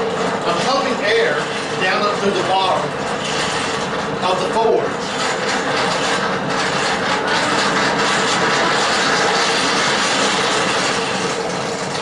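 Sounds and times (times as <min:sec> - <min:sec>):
hand-cranked blower whirring: 0:00.0 - 0:12.0.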